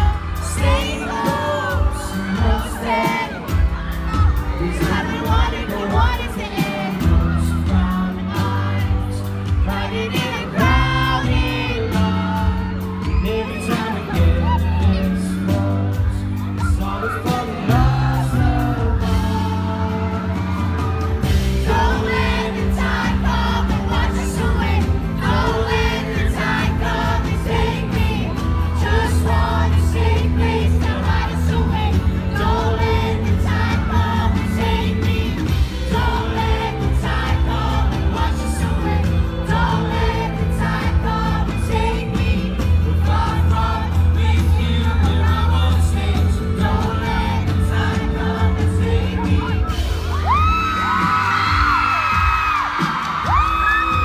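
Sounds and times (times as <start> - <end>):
man singing: 0.0 - 49.9.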